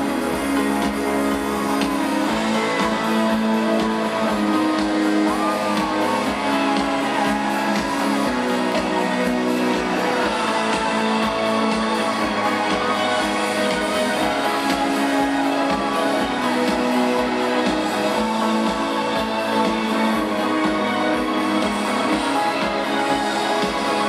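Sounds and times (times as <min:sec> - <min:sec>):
electric guitar line: 0:00.0 - 0:24.0
steady drum beat: 0:00.0 - 0:24.0.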